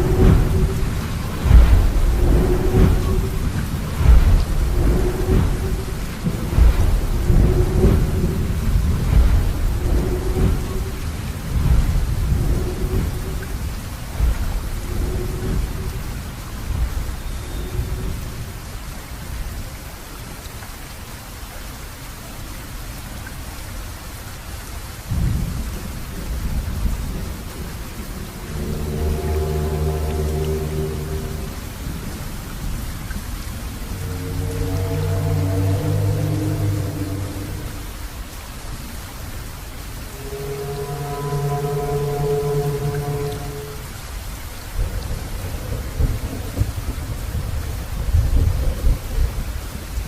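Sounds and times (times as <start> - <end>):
rolling thunder: 0.0 - 19.8, 25.0 - 50.0
steady rain: 0.0 - 50.0.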